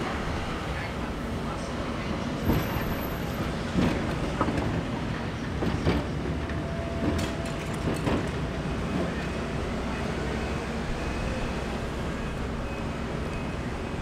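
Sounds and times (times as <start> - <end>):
tram wheels clicking on rails: 0.0 - 14.0.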